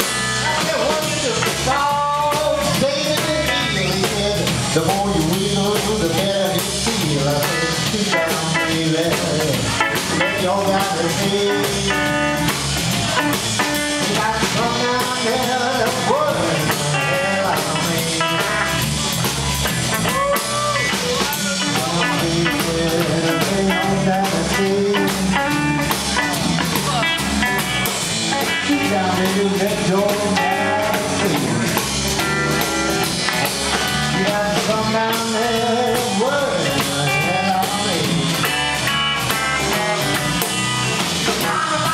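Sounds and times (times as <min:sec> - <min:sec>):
live blues band playing: 0:00.0 - 0:41.9
electric guitar with bends: 0:07.0 - 0:41.9.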